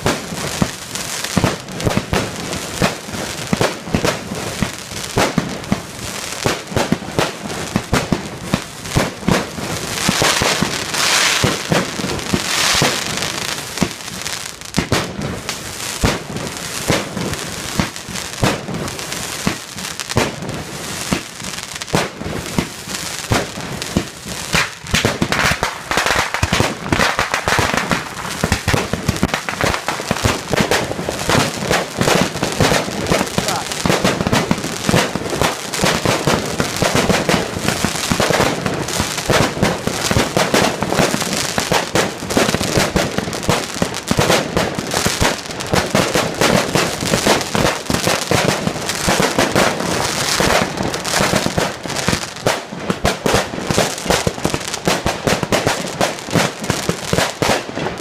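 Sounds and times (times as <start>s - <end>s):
fireworks banging: 0.0s - 58.0s
fireworks crackling: 0.0s - 58.0s.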